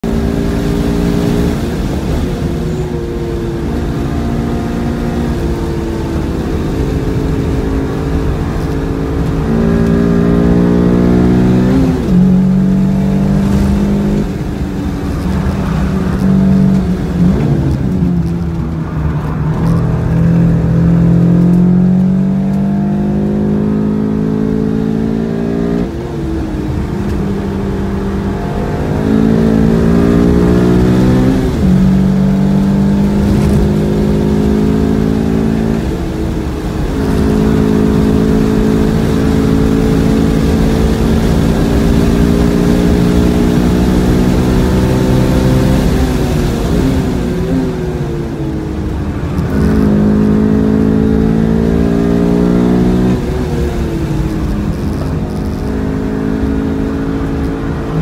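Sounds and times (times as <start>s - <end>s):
car engine revving: 0.0s - 58.0s
road rumble: 0.0s - 58.0s.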